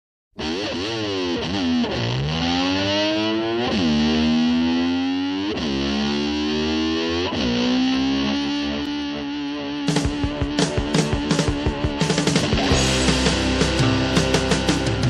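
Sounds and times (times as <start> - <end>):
distorted electric guitar sliding: 0.4 - 15.0.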